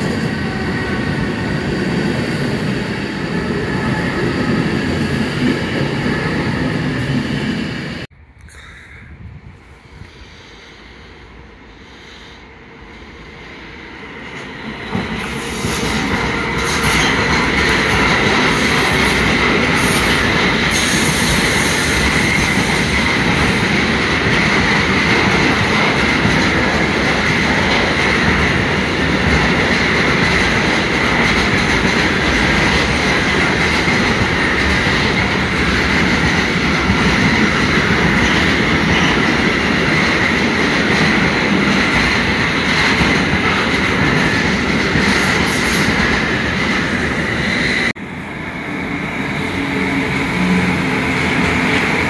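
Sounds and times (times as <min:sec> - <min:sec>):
freight train rolling past: 0:00.0 - 0:08.1, 0:09.1 - 0:52.0.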